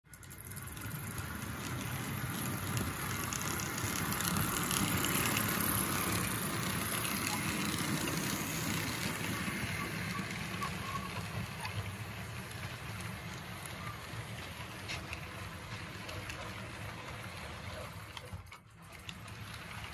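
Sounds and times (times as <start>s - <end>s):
model train rattling on track: 0.1s - 19.9s.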